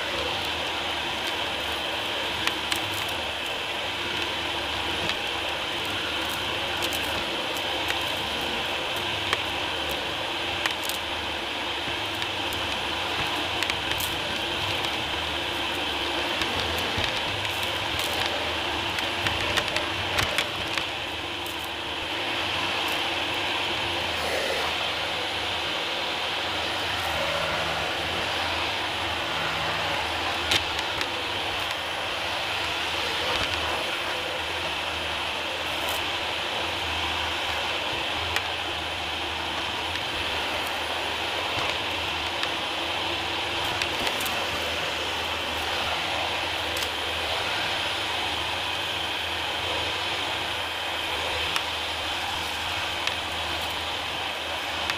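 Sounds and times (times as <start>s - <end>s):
grit crackling in vacuum: 0.0s - 54.9s
vacuum cleaner motor whining: 0.0s - 54.9s.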